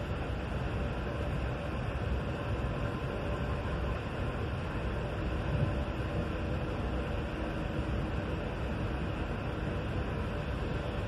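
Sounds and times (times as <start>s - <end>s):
train rumble and hiss: 0.0s - 11.0s.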